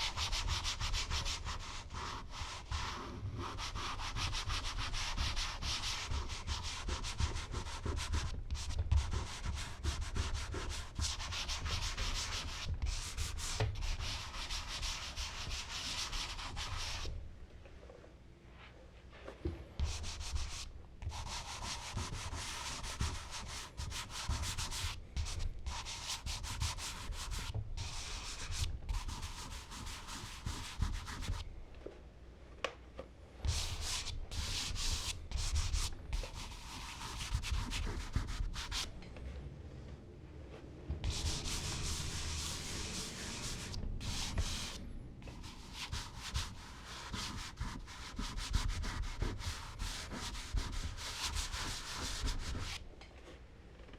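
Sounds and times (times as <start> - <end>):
charcoal scratching on paper: 0.0 - 17.1, 19.8 - 31.4, 33.4 - 38.9, 41.0 - 52.8.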